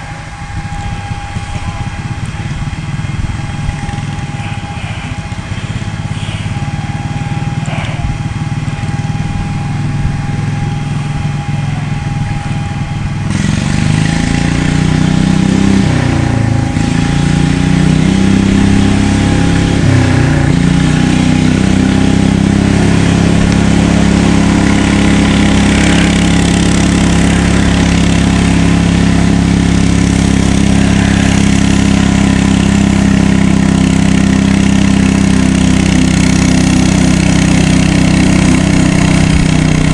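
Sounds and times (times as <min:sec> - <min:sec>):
tractor engine revving under load: 0:00.0 - 0:39.9.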